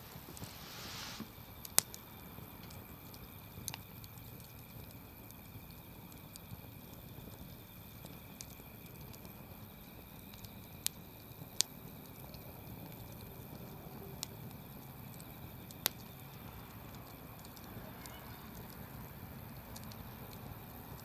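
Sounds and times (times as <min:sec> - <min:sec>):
campfire crackling: 0:00.0 - 0:21.0
sharp pops of burning wood: 0:00.1 - 0:21.0.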